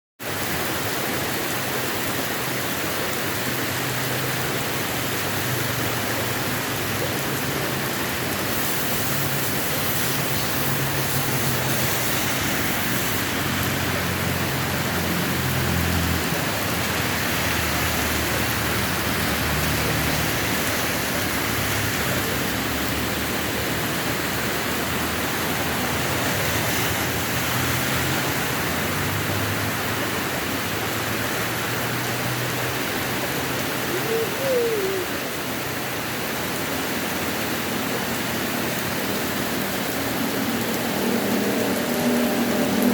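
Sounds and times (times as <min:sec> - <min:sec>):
heavy rain pouring: 0:00.2 - 0:42.9.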